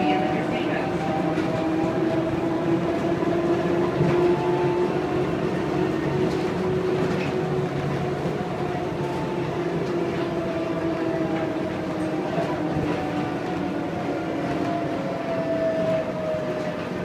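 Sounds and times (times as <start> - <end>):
constant rumbling noise: 0.0 - 17.0.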